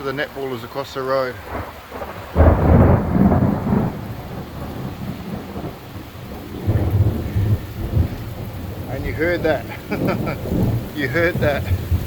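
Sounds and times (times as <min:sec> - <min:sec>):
steady rain: 0:00.0 - 0:12.0
thunder rumbling: 0:01.3 - 0:12.0.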